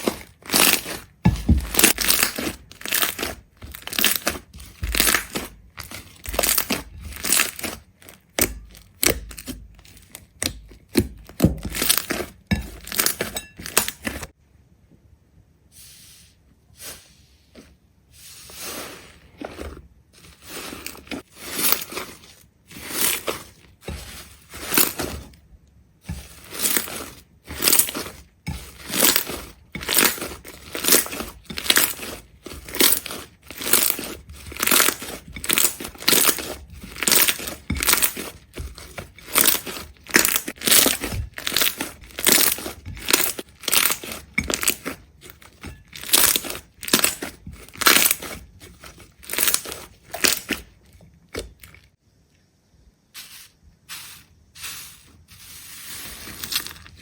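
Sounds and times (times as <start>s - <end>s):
rapid crunching: 0.0s - 14.3s, 18.4s - 25.4s, 26.0s - 52.0s.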